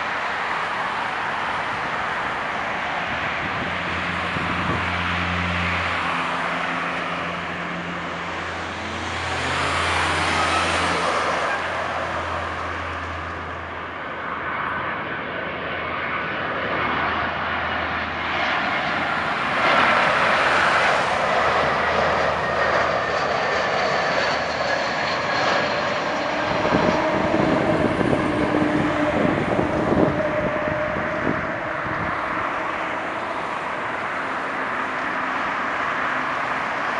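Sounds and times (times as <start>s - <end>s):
jet engines passing: 0.0s - 36.9s.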